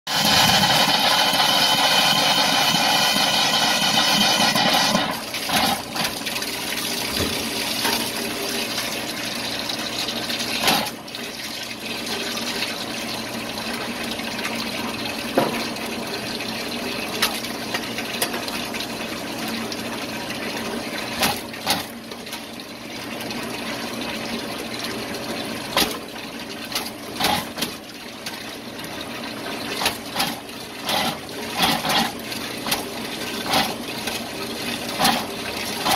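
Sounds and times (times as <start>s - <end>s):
faucet sputtering and spitting: 0.1s - 22.4s, 25.4s - 35.9s
faucet water into steel basin: 0.1s - 35.9s.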